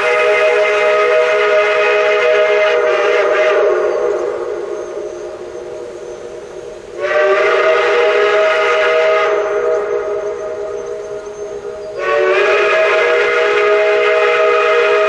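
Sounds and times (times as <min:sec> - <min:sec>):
steam whistle chord: 0:00.0 - 0:15.0.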